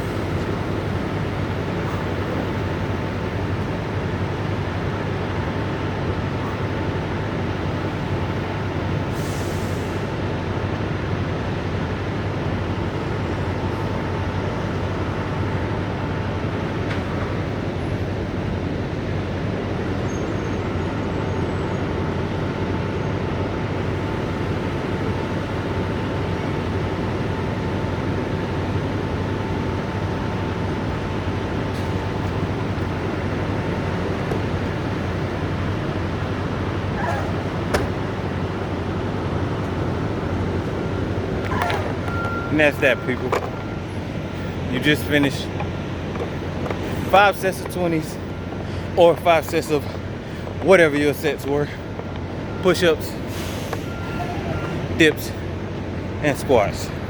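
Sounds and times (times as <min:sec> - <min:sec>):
truck engines idling: 0:00.0 - 0:57.0.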